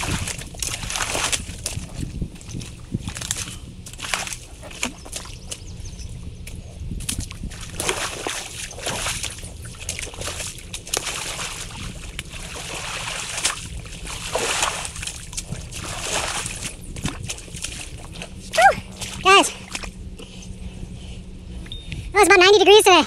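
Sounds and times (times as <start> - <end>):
creek water splashing: 0.0 - 21.0.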